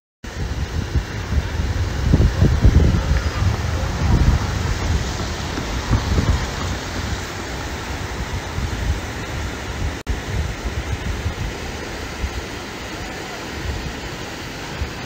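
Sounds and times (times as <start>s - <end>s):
floodwater rushing: 0.3s - 15.0s
wind buffeting microphone: 0.3s - 15.0s.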